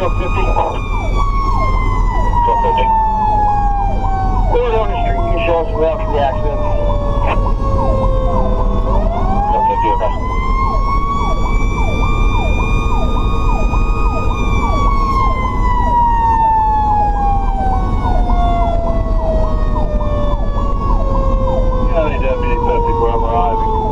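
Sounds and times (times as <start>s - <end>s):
electronic siren yelping: 0.0s - 23.9s
engine and road noise: 0.0s - 23.9s
mechanical siren wailing: 0.0s - 23.9s.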